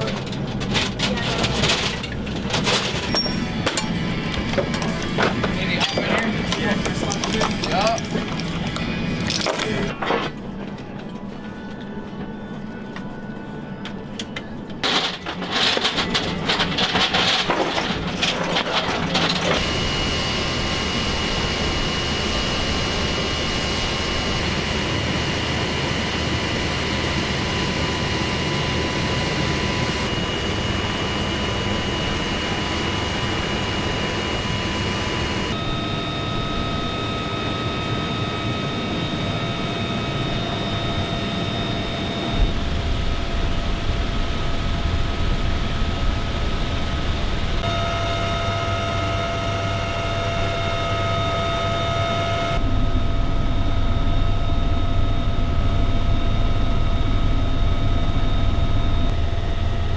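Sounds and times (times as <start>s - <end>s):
helicopter engines and rotor: 0.0s - 11.8s, 14.8s - 59.9s.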